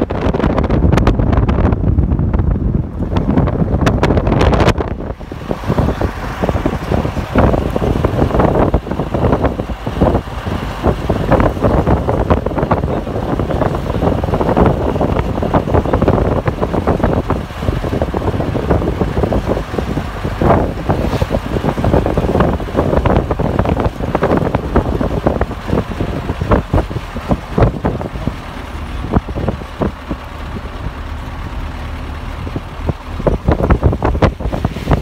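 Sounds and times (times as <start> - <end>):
vehicle engine and tyre rumble: 0.0 - 35.0
wind buffeting microphone: 0.0 - 35.0.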